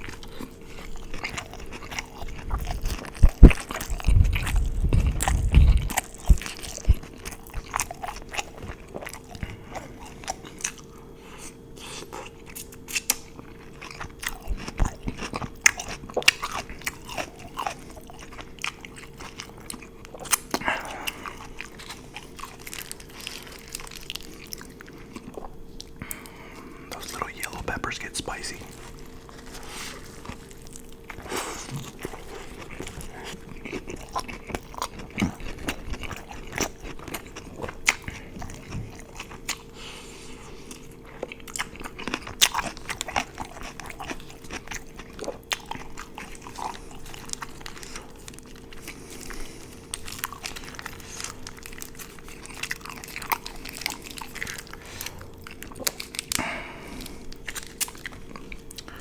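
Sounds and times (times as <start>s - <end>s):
chewing and crunching food: 0.0s - 59.0s
faint steady hum: 0.0s - 59.0s.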